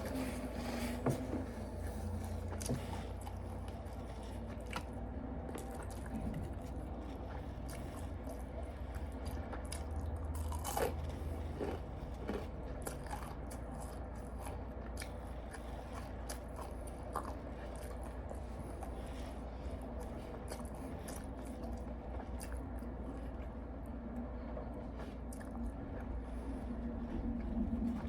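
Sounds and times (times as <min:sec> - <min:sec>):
person chewing crunchy food: 0:00.0 - 0:23.6
steady low hum: 0:00.0 - 0:28.0.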